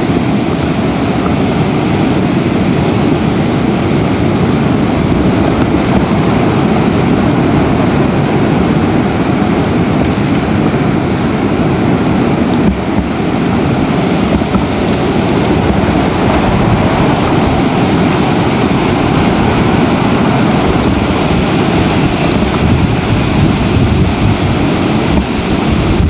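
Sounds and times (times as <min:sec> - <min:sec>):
strong storm wind: 0:00.0 - 0:26.0.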